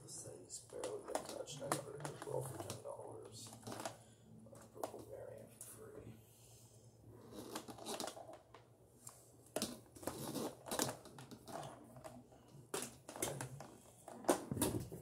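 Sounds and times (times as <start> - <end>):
rustling and crinkling: 0.5 - 5.8, 7.2 - 15.0.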